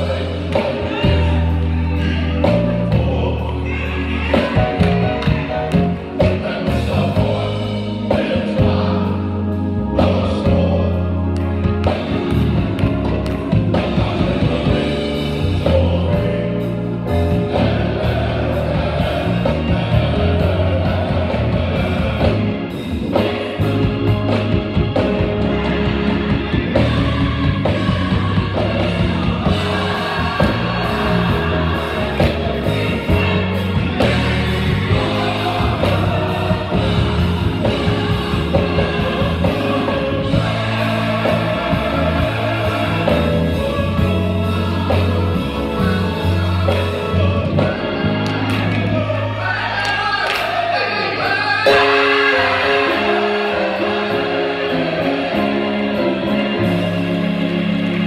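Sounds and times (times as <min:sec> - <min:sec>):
low bass line: 0:00.0 - 0:49.4
choir and solo singers: 0:00.0 - 0:58.0
instrumental backing: 0:00.0 - 0:58.0.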